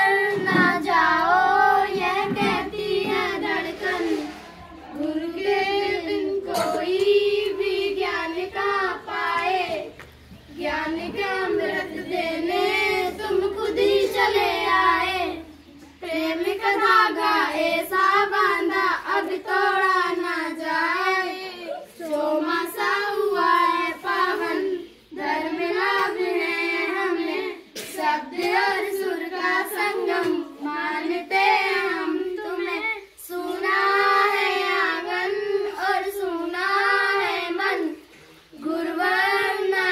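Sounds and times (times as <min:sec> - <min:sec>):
girls singing unaccompanied: 0:00.0 - 0:39.9.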